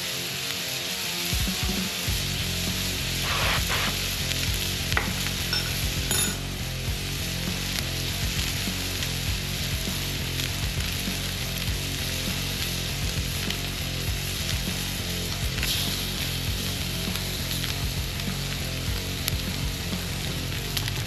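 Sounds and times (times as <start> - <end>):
hot oil sizzling: 0.0 - 21.0.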